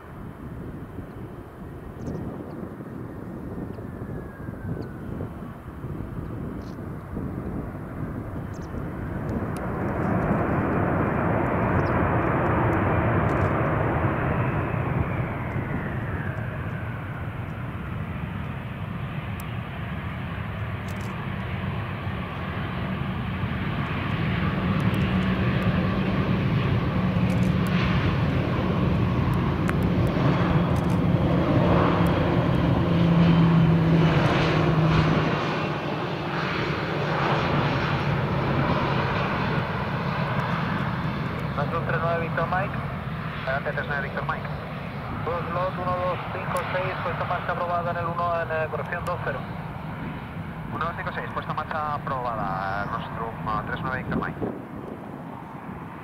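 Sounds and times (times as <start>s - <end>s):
jet engine whine: 0.0s - 56.0s
low airliner drone: 0.0s - 56.0s.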